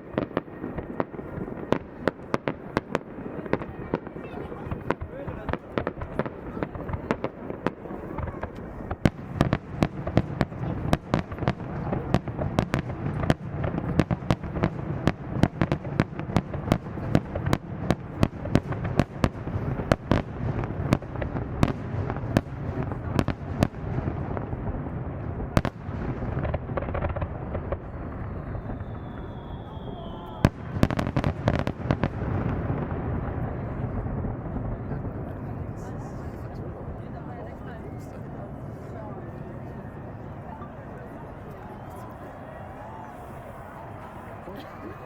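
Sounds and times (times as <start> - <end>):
firework bangs and crackles: 0.0 - 45.0.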